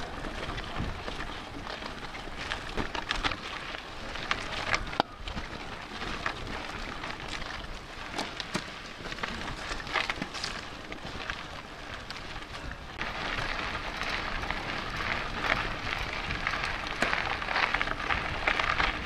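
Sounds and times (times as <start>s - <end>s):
bike tyres crunching on dirt: 0.0s - 19.0s.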